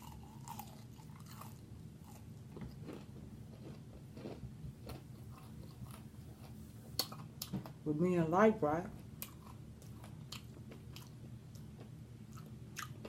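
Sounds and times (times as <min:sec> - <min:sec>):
person chewing food: 0:00.0 - 0:07.5, 0:09.0 - 0:13.0.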